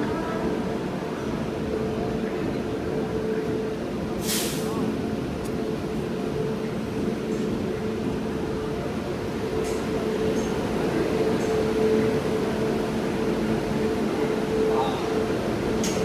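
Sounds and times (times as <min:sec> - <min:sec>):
train coach rumble and hum: 0:00.0 - 0:16.0.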